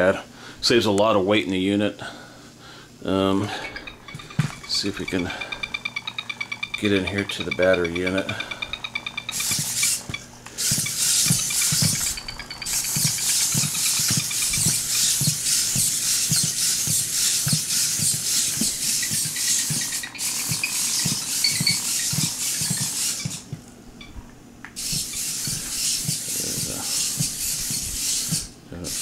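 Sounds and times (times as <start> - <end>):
robot servos whirring: 3.6 - 23.5, 24.8 - 29.0.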